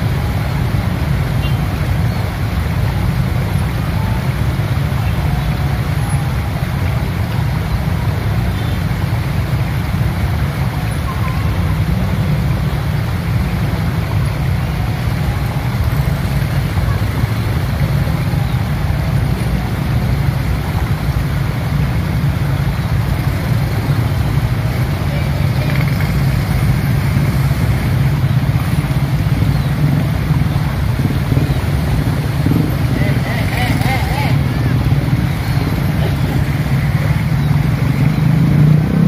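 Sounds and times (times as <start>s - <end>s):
motorcycle engines idling: 0.0s - 39.0s.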